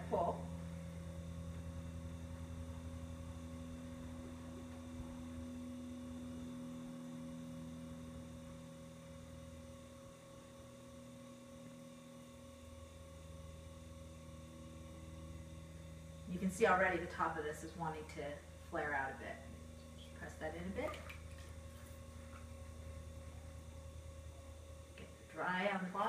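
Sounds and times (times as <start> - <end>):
potter's wheel motor humming: 0.0 - 26.0.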